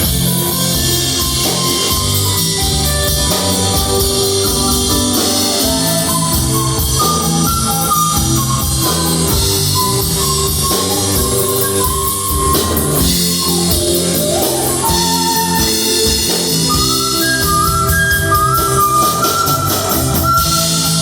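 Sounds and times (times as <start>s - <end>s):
rock band playing: 0.0s - 21.0s
sliding lead guitar melody: 0.0s - 21.0s.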